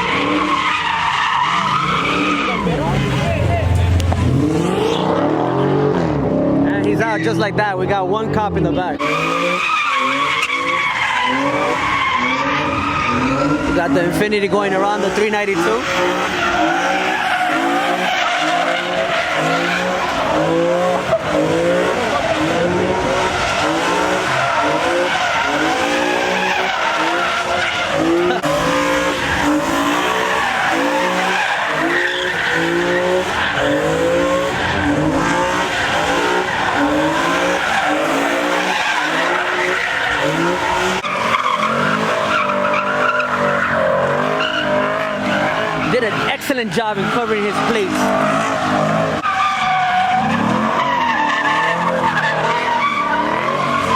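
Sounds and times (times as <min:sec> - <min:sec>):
tyres screeching: 0:00.0 - 0:05.7, 0:08.6 - 0:53.9
car engine revving: 0:00.0 - 0:53.9.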